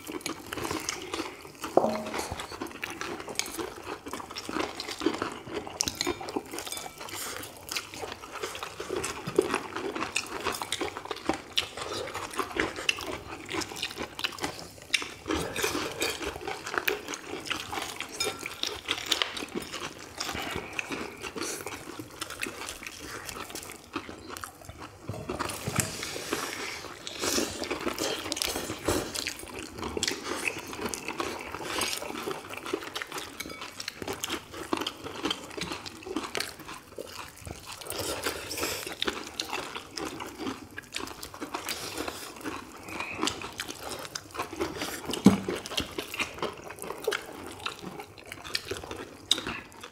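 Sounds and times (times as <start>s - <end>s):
wet chewing: 0.0s - 49.9s.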